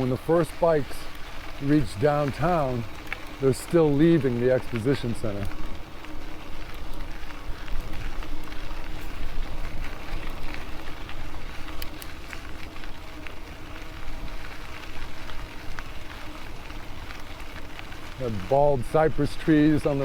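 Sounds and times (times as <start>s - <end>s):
faint steady hum: 0.0s - 20.0s
tyres rolling on trail: 0.0s - 20.0s
wind rumbling on microphone: 0.0s - 20.0s.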